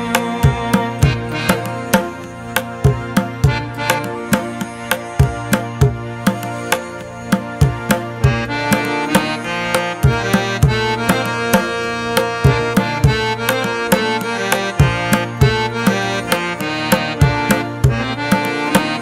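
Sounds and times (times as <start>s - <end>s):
hand drum beats: 0.0s - 19.0s
sustained melody: 0.0s - 19.0s.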